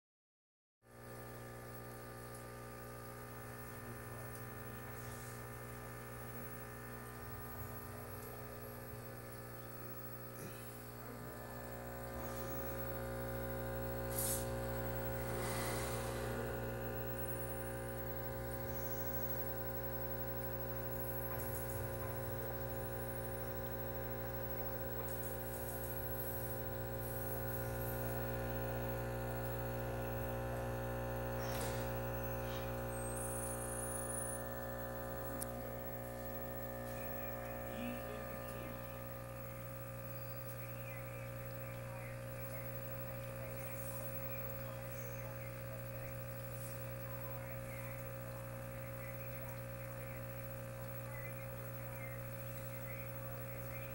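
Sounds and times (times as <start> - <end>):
aquarium equipment humming: 0.9 - 53.9.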